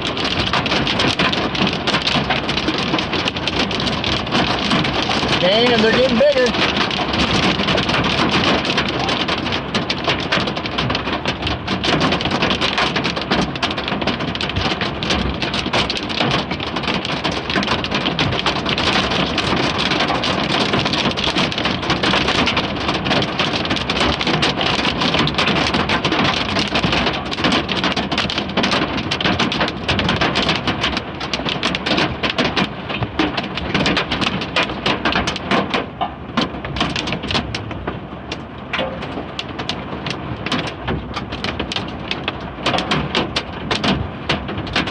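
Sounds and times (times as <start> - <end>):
hail pelting a vehicle: 0.0 - 44.9.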